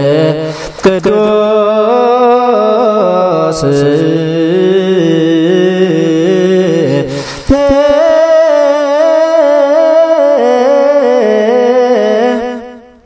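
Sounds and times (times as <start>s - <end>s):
person chanting prayer: 0.0s - 13.0s.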